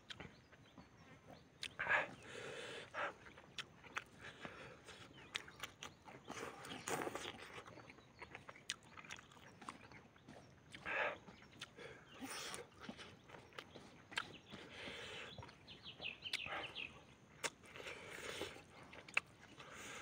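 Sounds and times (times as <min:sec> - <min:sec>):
open-mouthed chewing and lip smacking: 0:00.0 - 0:20.0.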